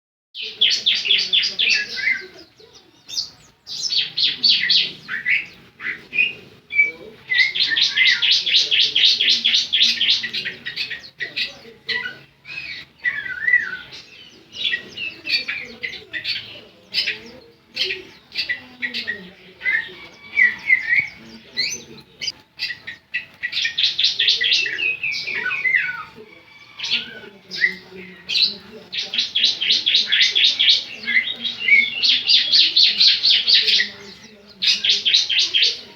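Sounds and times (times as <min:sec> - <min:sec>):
bird singing high chirps: 0:00.4 - 0:35.9.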